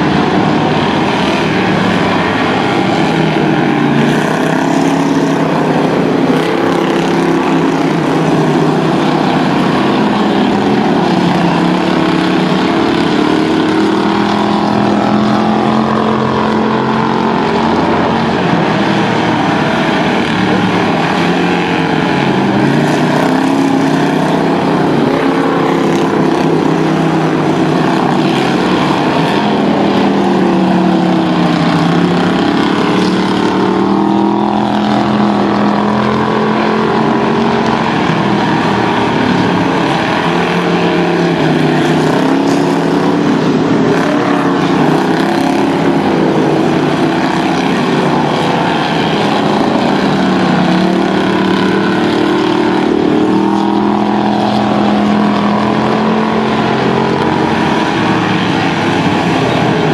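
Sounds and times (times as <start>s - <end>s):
race car engines passing by: 0.0s - 59.9s.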